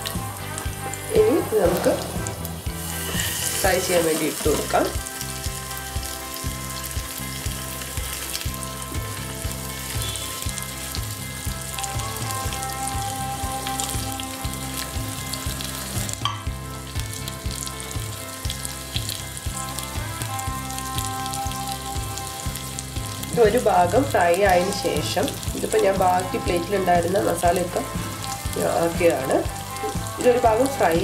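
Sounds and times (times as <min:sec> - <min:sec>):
fish sizzling in a pan: 0:00.0 - 0:31.0.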